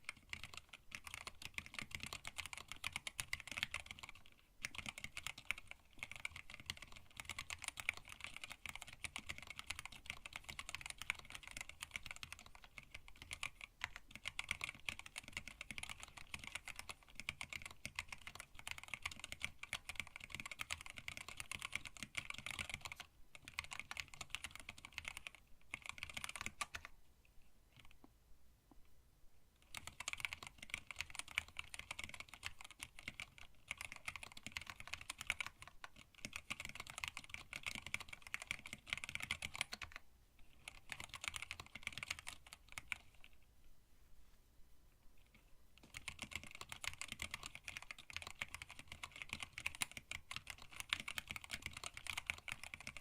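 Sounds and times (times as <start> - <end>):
mechanical keyboard typing: 0.0 - 26.9, 29.6 - 43.4, 45.8 - 53.0.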